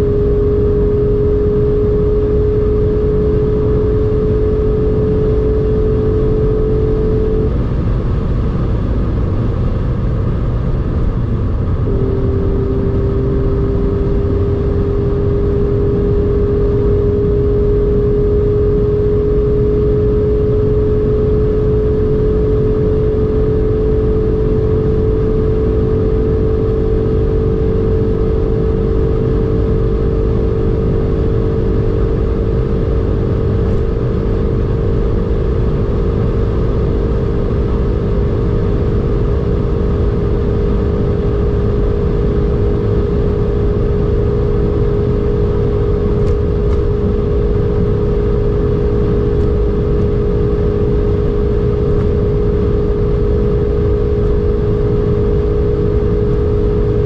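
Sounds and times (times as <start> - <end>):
car engine droning: 0.0 - 57.0
wind and road noise: 0.0 - 57.0.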